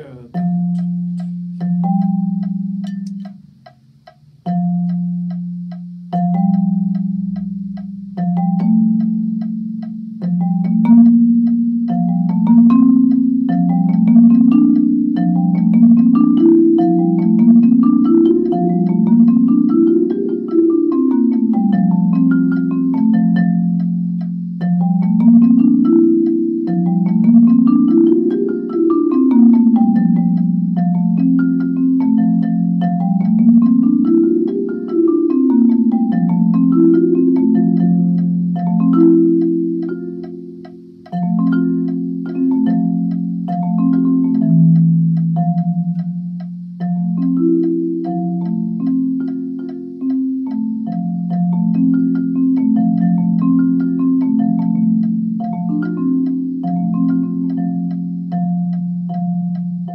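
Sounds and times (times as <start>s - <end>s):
marimba scale runs: 0.0s - 3.7s, 4.4s - 59.9s.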